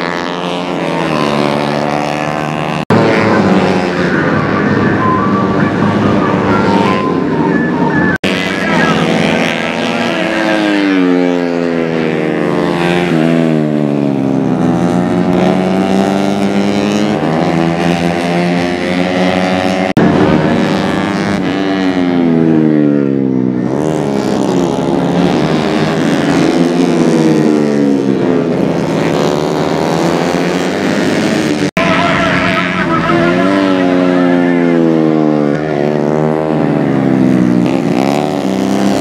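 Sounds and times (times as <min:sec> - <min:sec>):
racing motorcycles revving: 0:00.0 - 0:39.0.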